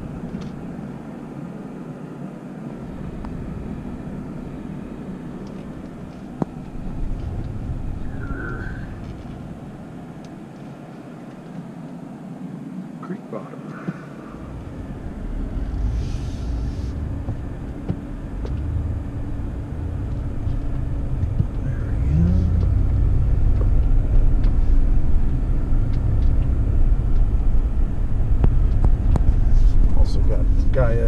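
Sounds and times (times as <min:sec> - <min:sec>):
truck engine and tyre rumble: 0:00.0 - 0:31.0.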